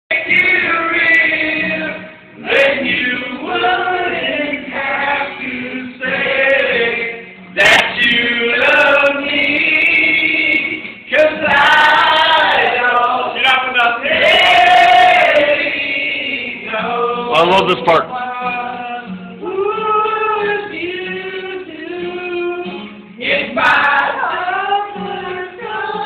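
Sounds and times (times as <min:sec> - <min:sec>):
men and woman singing in unison: 0:00.1 - 0:26.0.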